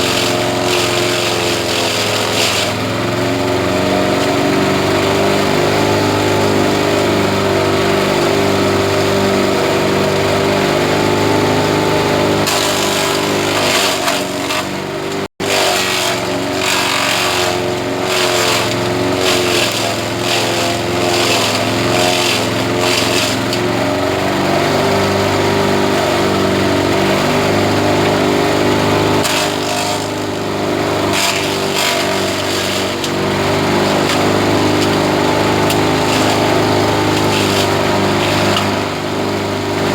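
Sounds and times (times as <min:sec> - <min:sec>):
grass chopper engine running: 0:00.0 - 0:39.9
grass crackling through cutter: 0:00.0 - 0:39.9.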